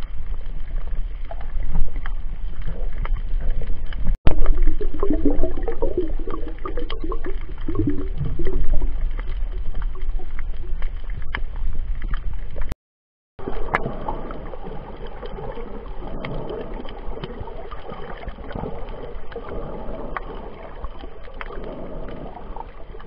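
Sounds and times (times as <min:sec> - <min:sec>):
underwater rumble and sloshing: 0:00.0 - 0:23.0.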